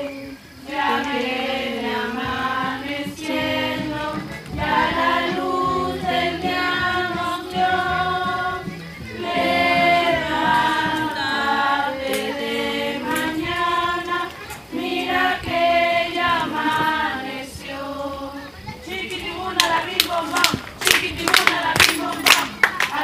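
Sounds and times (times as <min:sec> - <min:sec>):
group of voices singing: 0:00.0 - 0:23.0.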